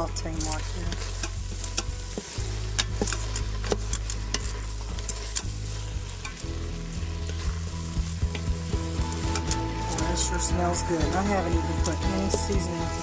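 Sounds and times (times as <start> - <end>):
vegetables sizzling in a pot: 0.0 - 13.0
wooden spatula scraping a pot: 0.0 - 13.0.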